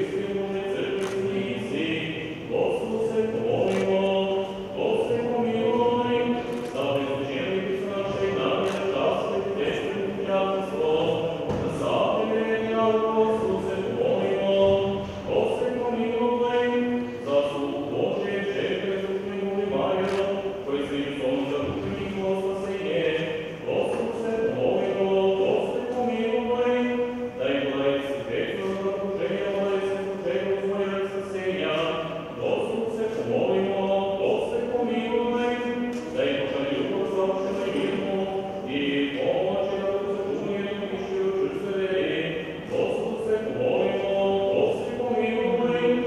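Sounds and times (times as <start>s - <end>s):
liturgical chanting: 0.0s - 46.0s.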